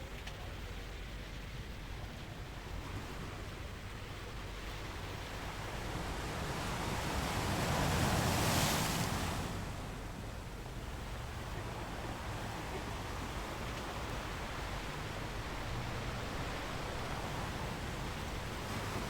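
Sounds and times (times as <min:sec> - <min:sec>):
sea surf washing: 0:02.1 - 0:19.0.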